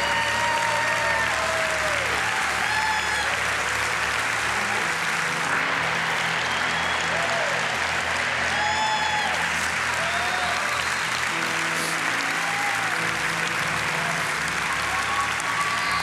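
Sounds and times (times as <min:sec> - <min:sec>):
crowd applauding: 0:00.0 - 0:16.0
people cheering: 0:00.0 - 0:16.0.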